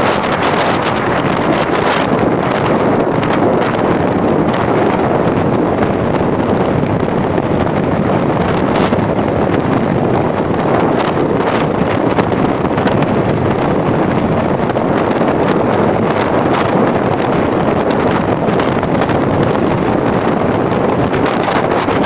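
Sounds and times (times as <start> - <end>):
vehicle running noise: 0.0 - 22.0
wind buffeting microphone: 0.0 - 22.0.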